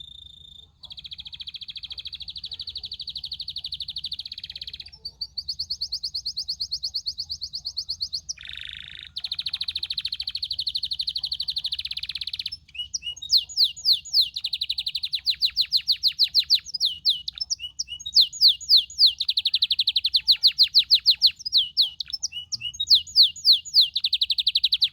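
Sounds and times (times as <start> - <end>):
canary singing trills: 0.0 - 24.9.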